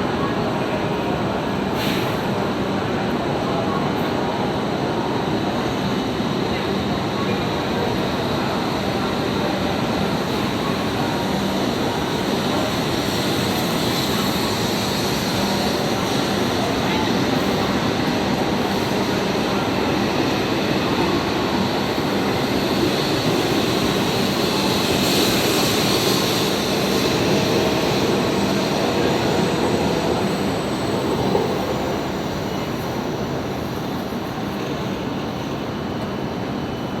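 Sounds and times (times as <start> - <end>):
train rolling past: 0.0 - 37.0.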